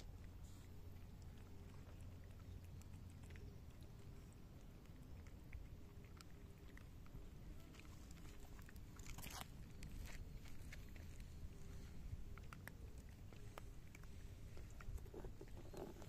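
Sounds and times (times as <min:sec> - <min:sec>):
cats crunching dry kibble: 0:00.0 - 0:16.0
low steady rumble: 0:00.0 - 0:16.0.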